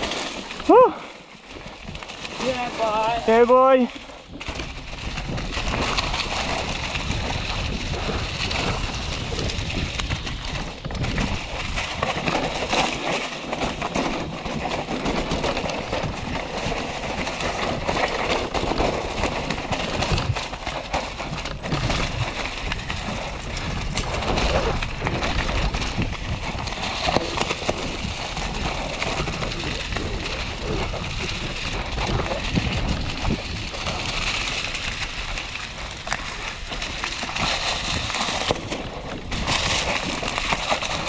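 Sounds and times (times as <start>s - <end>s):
bike rattling over bumps: 0.0s - 41.0s
bike tyres on dirt: 0.0s - 41.0s.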